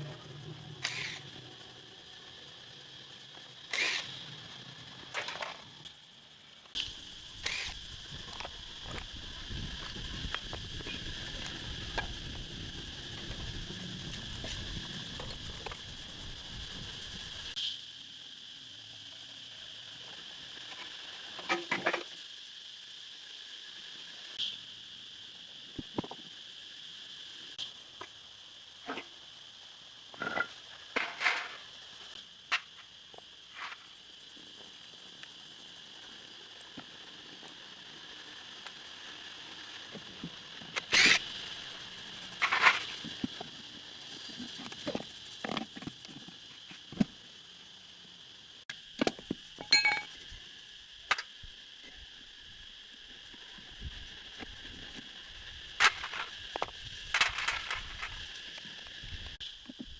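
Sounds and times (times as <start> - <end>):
high insect chorus: 0.0 - 59.9.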